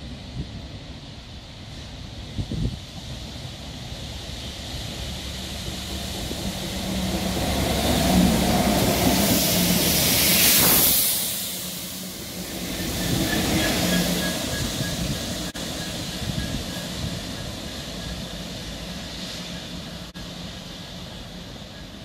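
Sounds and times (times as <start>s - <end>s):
diesel locomotive hum: 0.0s - 22.0s
rushing hissing water jets: 1.4s - 22.0s.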